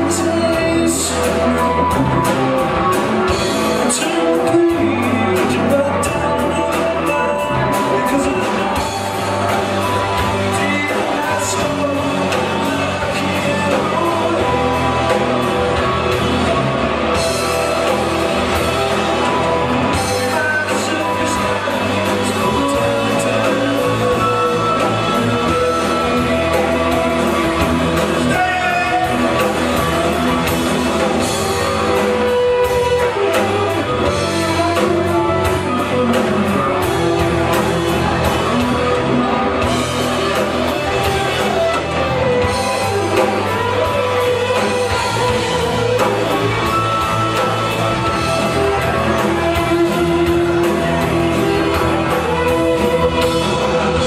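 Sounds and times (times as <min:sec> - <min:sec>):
man singing lead vocal: 0:00.0 - 0:16.1, 0:18.8 - 0:54.0
drum kit with cymbal hits: 0:00.0 - 0:54.0
electric bass: 0:00.0 - 0:54.0
electric guitar: 0:00.0 - 0:54.0.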